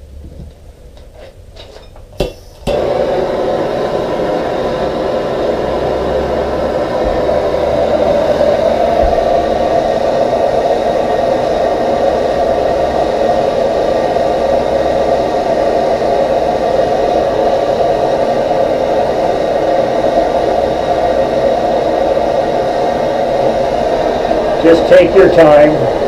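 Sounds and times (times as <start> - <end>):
heat gun blowing: 2.2 - 26.0.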